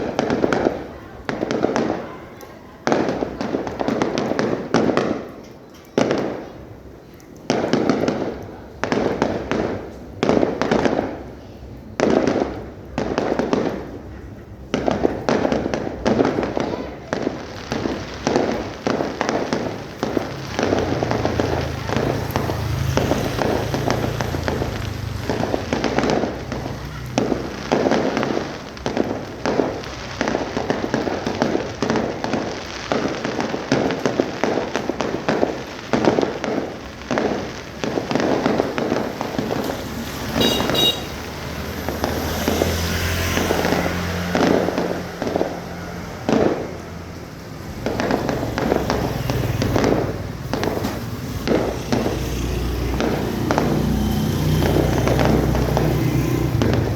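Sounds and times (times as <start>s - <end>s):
fireworks booms and crackles: 0.0s - 56.9s.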